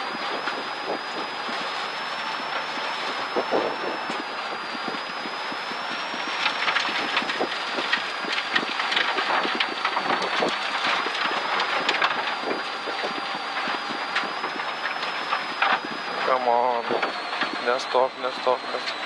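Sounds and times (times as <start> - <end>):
car engine: 0.0 - 19.0.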